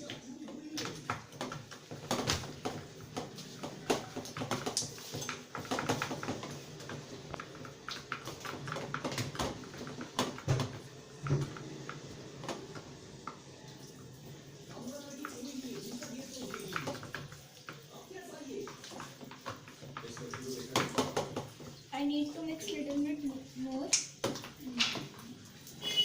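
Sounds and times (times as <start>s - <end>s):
slime stirred in a bowl: 0.0s - 13.7s, 14.6s - 26.0s.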